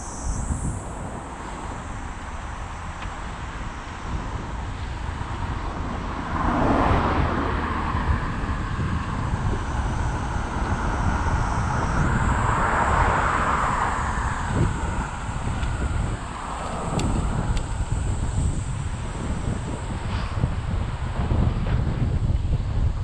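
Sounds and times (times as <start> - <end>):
car tyres passing on road: 0.0 - 22.4
wind rushing over microphone: 0.0 - 23.0.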